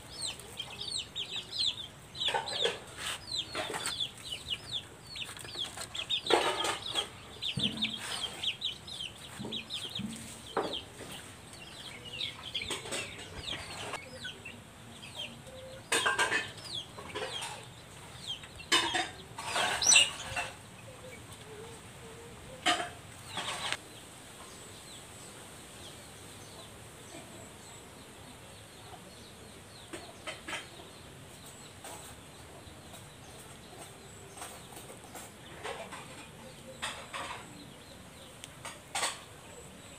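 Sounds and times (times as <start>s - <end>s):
chicks peeping: 0.0s - 25.0s, 25.6s - 39.9s
chickens clucking: 0.0s - 39.9s.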